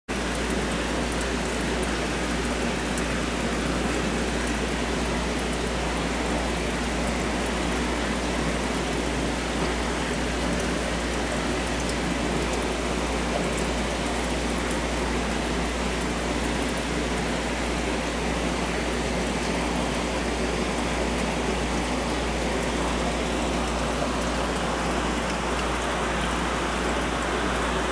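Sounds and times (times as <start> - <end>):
aquarium water rushing and hissing: 0.1 - 27.9
low pump hum: 0.1 - 27.9.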